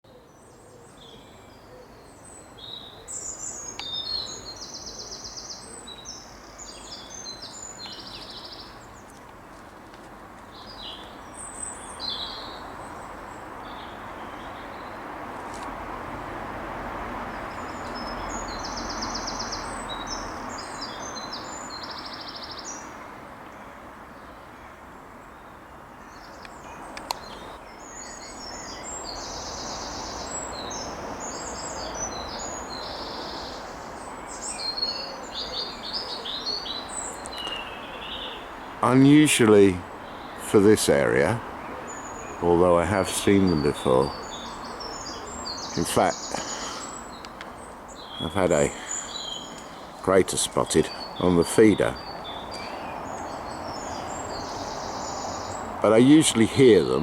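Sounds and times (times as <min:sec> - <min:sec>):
songbirds trilling: 0:00.1 - 0:57.0
steady background hiss: 0:00.2 - 0:57.0.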